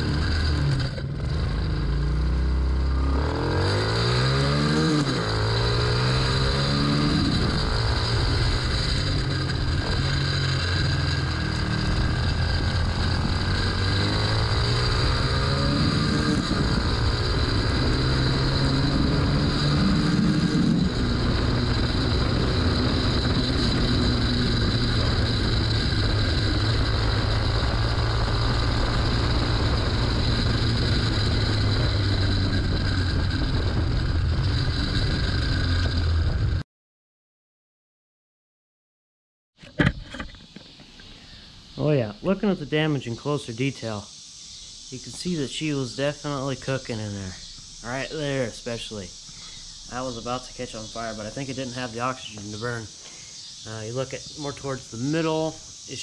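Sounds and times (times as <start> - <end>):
small motorcycle engine revving: 0.0 - 36.6, 39.6 - 56.0.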